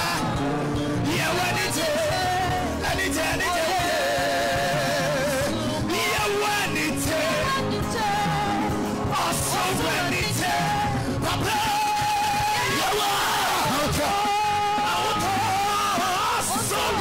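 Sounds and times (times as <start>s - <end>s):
church praise music accompaniment: 0.0s - 17.0s.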